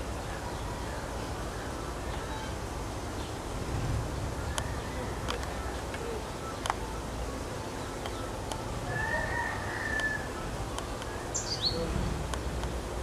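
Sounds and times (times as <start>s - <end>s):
low outdoor rumble: 0.0s - 9.6s, 10.2s - 13.0s
small birds calling: 0.0s - 13.0s.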